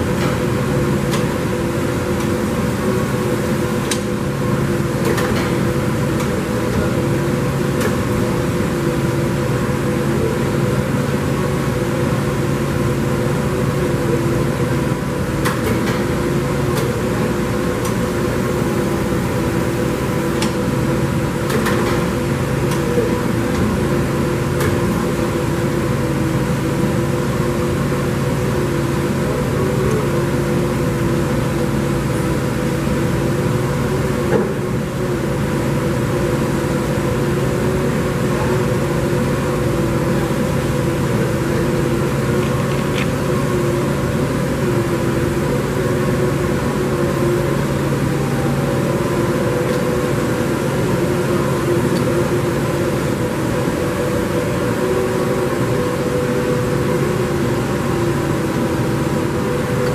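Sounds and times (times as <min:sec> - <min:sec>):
lathe mechanical hum: 0:00.0 - 0:59.9.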